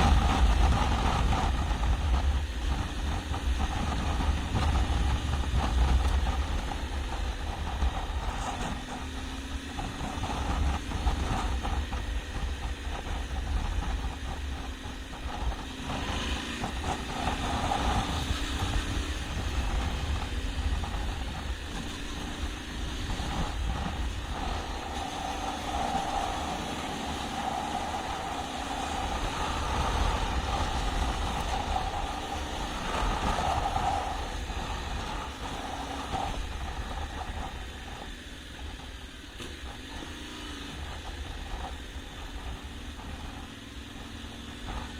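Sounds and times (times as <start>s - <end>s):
heavy low rumble: 0.0s - 44.9s
motorcycle engine running: 0.0s - 44.9s.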